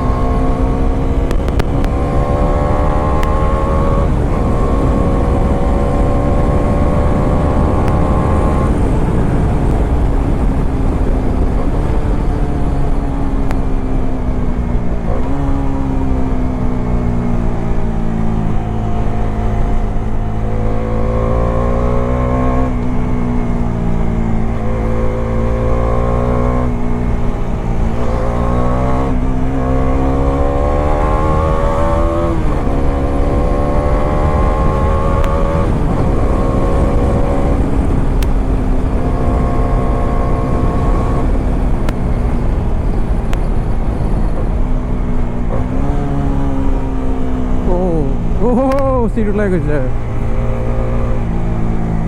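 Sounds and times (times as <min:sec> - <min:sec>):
wind rumble on microphone: 0:00.0 - 0:52.0.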